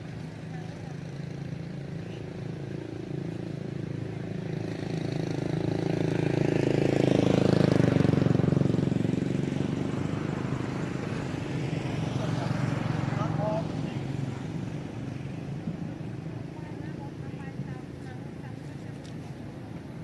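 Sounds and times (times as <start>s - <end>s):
motor vehicle passing by: 0.0s - 20.0s.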